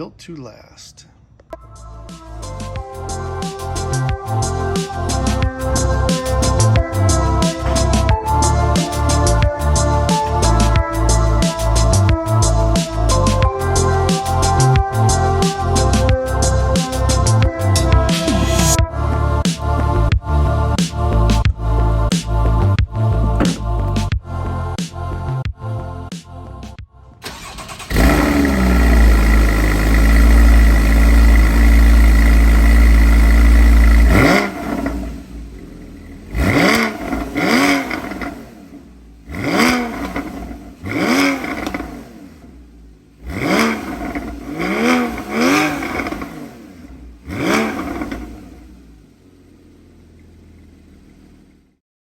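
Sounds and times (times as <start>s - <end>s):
sports car engine idling: 1.3s - 25.3s, 27.2s - 51.8s
engine throttle blips: 1.4s - 20.2s, 27.1s - 51.6s.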